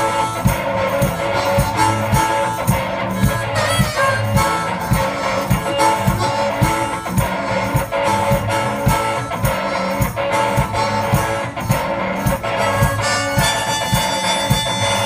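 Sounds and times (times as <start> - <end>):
steady low beat: 0.0 - 15.0
strummed guitar: 0.0 - 15.0.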